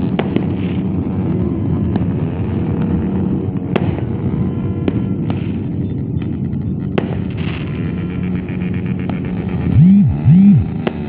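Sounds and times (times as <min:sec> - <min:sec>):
motorcycles revving: 0:00.0 - 0:11.0.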